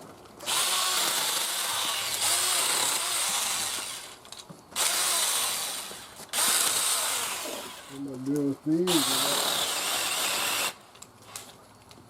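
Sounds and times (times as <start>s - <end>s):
electric saw cutting branches: 0.4s - 11.6s.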